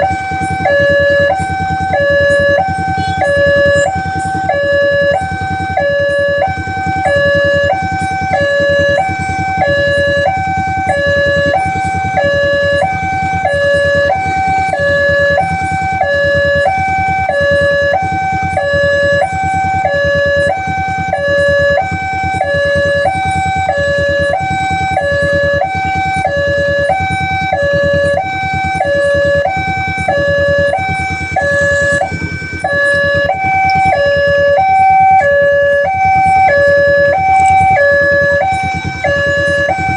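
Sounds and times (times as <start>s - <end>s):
two-tone level-crossing warning siren: 0.0s - 39.9s.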